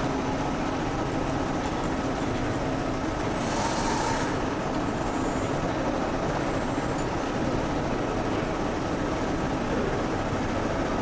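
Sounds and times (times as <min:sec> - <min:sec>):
assembly line machinery hum: 0:00.0 - 0:11.0.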